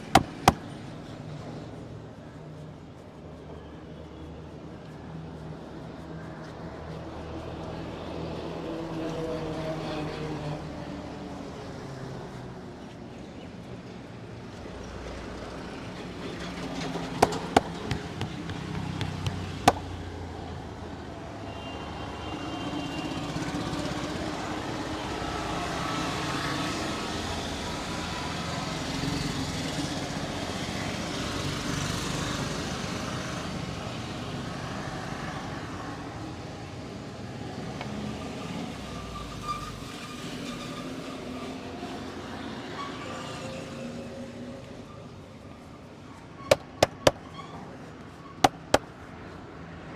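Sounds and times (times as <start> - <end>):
street traffic noise: 0.0 - 49.9.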